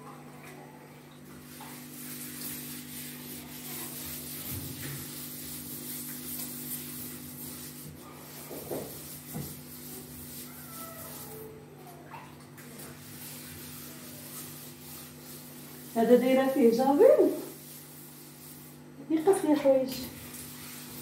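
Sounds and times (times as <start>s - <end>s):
tiles scrubbed by hand: 1.2s - 21.0s.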